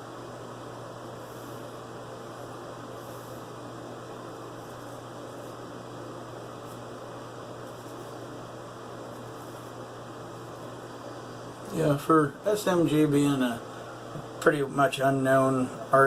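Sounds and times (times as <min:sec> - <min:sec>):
even hiss: 0:00.0 - 0:16.0
low electrical hum: 0:00.0 - 0:16.0.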